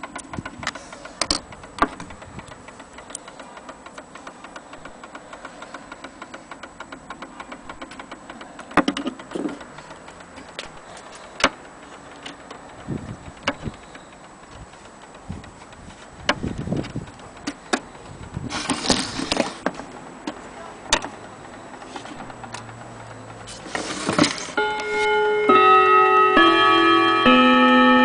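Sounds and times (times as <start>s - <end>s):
clock ticking: 0.0s - 18.5s, 19.3s - 23.6s, 24.4s - 28.0s.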